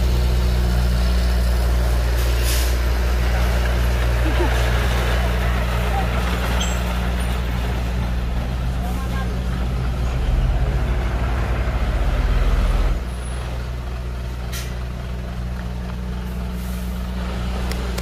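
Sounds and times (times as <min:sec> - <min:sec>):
heavy diesel engine: 0:00.0 - 0:18.0.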